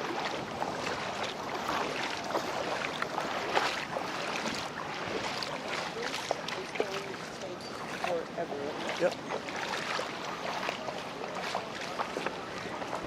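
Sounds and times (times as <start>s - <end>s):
feet wading through water: 0.0s - 13.0s.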